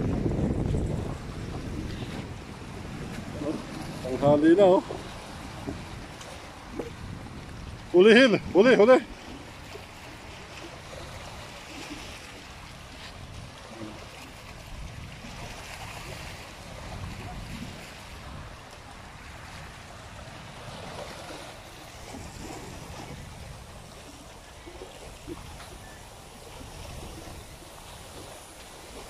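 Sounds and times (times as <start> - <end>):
waves washing against rocks: 0.0 - 29.0
wind rumble on microphone: 0.0 - 29.0.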